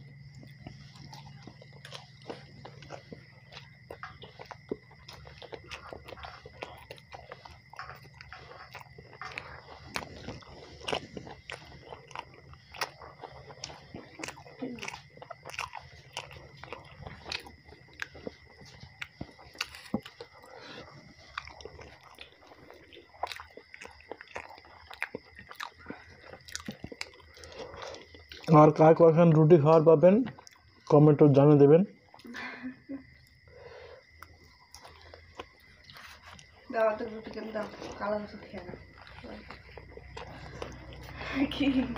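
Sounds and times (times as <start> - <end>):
person chewing food: 0.0 - 32.3, 32.9 - 41.9.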